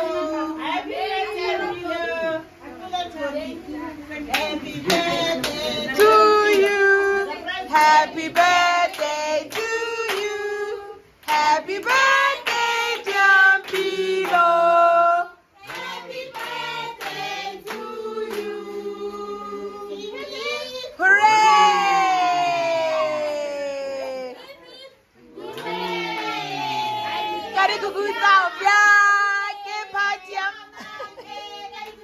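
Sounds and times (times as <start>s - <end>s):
women and children singing: 0.0s - 21.2s, 25.3s - 32.0s.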